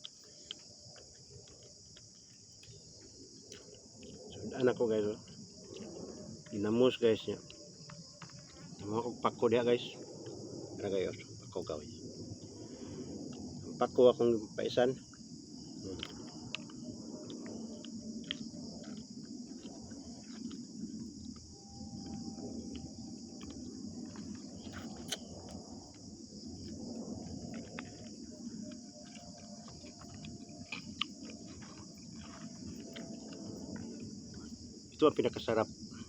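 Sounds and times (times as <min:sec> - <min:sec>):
crickets shrilling: 0:00.0 - 0:36.0.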